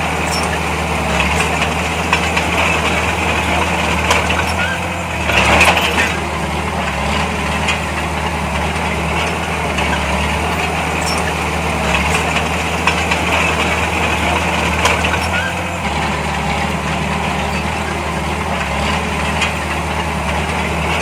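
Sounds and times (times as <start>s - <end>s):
heavy diesel engine idling: 0.0s - 21.0s.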